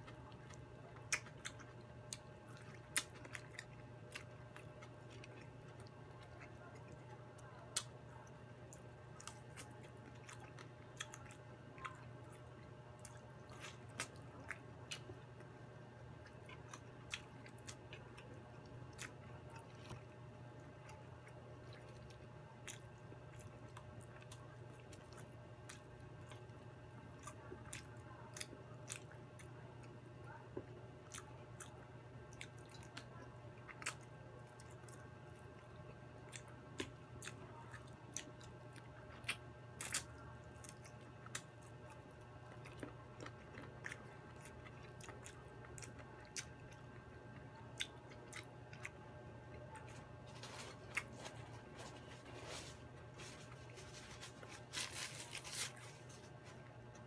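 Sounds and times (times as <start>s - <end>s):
chewing fried chicken: 0.0s - 57.0s
steady low hum: 0.0s - 57.0s.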